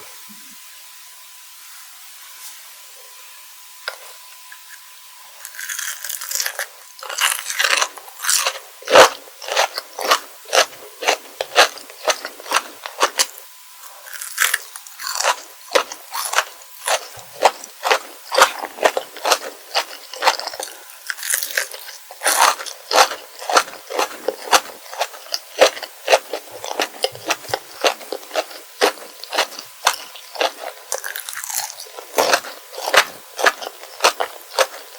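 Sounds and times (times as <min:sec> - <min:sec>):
crunching and chewing candy: 0:03.9 - 0:34.9.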